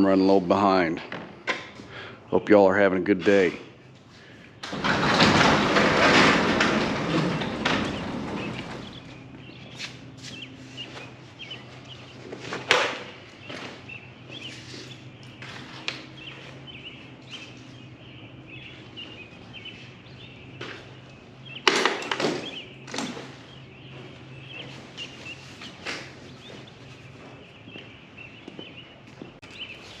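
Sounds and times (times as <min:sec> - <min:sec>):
birds chirping: 0:00.0 - 0:30.0
steady low hum: 0:00.0 - 0:30.0.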